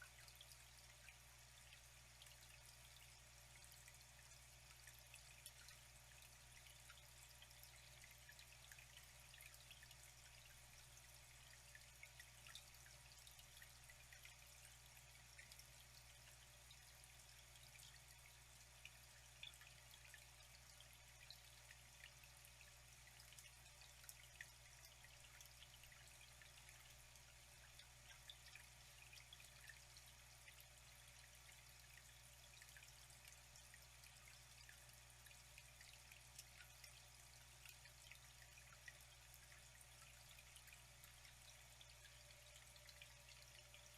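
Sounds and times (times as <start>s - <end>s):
water trickling with drips: 0.0s - 43.9s.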